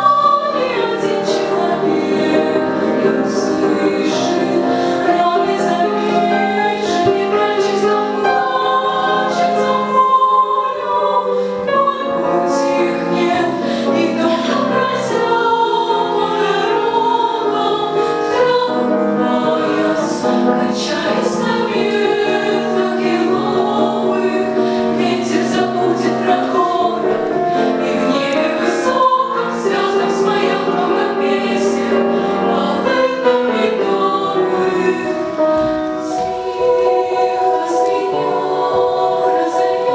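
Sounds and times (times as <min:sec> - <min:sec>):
girls choir singing: 0:00.0 - 0:39.9
piano accompaniment: 0:00.0 - 0:39.9.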